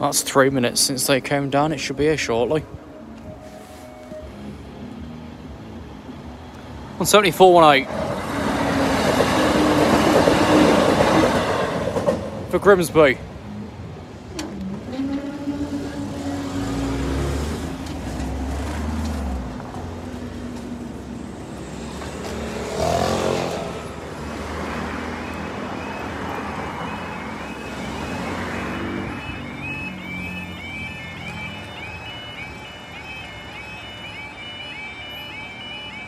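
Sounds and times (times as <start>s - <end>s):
vehicles passing over crossing: 0.0s - 36.0s.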